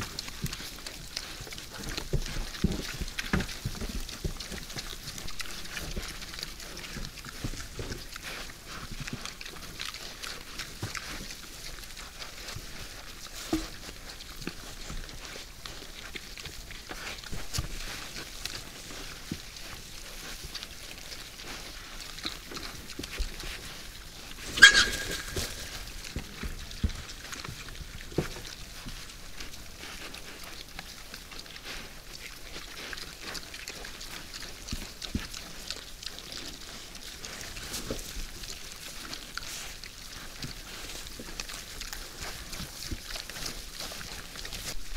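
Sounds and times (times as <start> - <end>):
wild boars crunching and chewing: 0.0 - 44.9.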